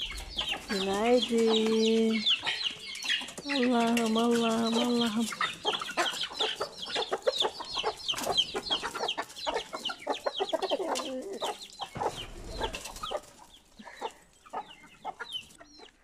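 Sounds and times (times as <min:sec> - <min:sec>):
chickens clucking and calling: 0:00.0 - 0:16.0.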